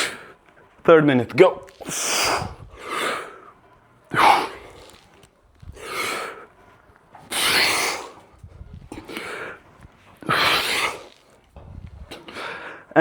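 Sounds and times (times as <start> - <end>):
man breathing heavily: 0.0 - 0.8, 1.7 - 13.0.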